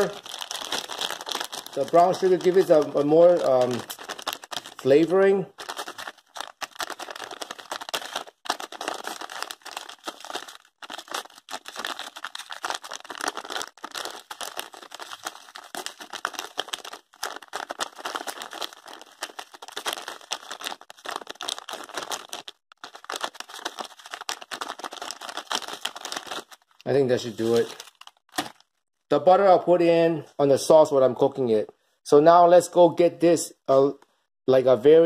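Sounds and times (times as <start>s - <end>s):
plastic bag crinkling: 0.0s - 28.8s.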